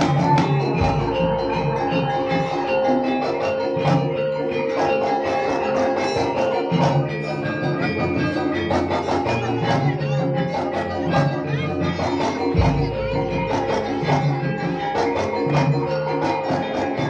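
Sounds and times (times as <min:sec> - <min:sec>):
drum and percussion beat: 0:00.0 - 0:17.0.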